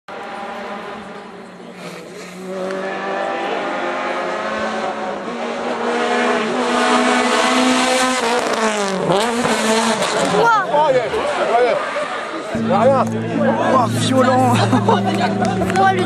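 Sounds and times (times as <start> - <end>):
rally car engine revving: 0.1 - 16.0.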